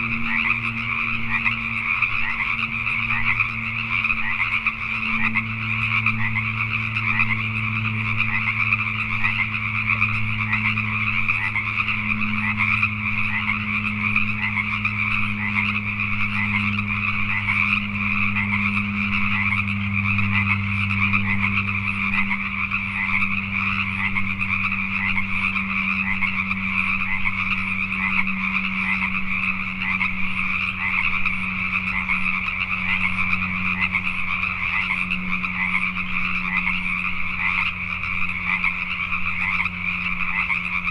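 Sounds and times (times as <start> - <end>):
frogs croaking in chorus: 0.0 - 40.9
steady low hum: 0.0 - 40.9.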